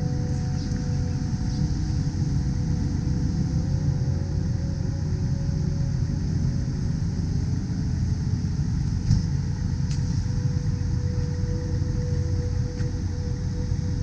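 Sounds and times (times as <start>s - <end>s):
faint steady hum: 0.0s - 14.0s
steady low rumble: 0.0s - 14.0s.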